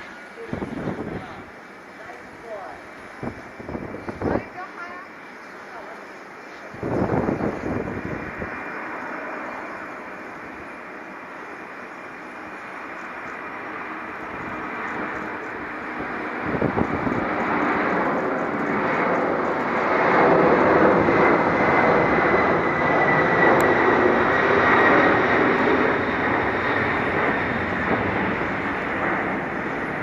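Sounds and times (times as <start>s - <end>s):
high jet whine: 0.0s - 30.0s
jet engines roaring: 0.0s - 30.0s.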